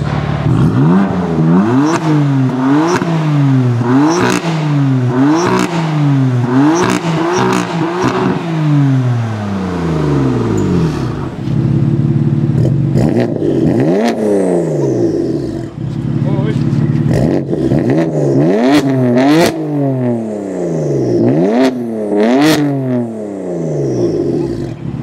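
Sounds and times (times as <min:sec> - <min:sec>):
loud car engine idling: 0:00.0 - 0:22.3, 0:23.0 - 0:25.0
car engine revving: 0:00.0 - 0:25.0.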